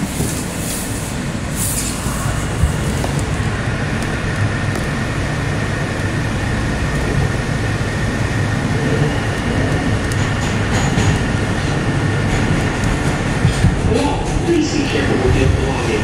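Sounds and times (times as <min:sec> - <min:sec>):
subway wheels rumbling on rail: 0:00.0 - 0:16.0.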